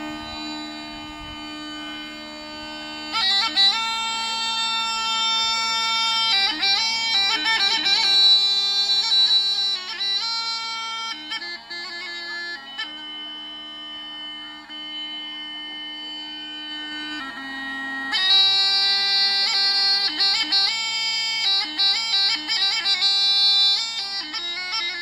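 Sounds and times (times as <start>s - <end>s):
bagpipe playing: 0.0s - 25.0s.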